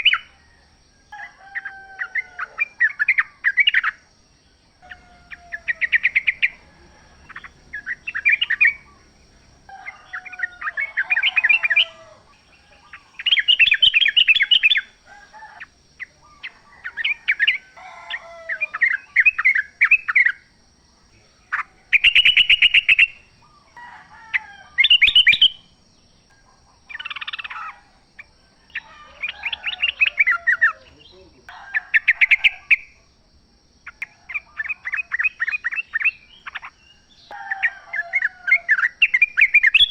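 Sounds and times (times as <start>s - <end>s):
bulbuls singing: 0.0s - 39.9s.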